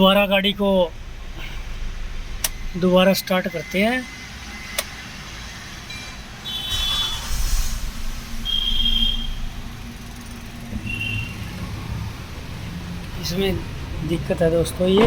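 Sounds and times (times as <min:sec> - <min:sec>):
car engine starting and running: 0:00.0 - 0:15.0.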